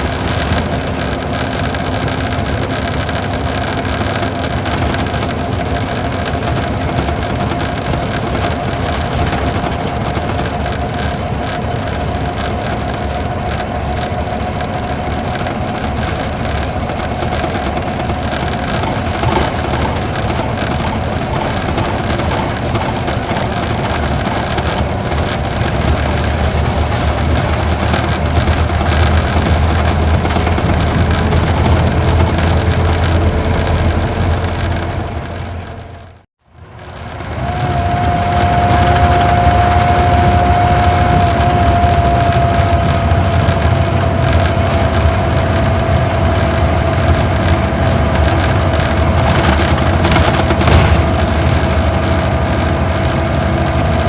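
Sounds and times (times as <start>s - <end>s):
bus engine rumble: 0.0s - 54.0s
tyre and road noise: 0.0s - 54.0s.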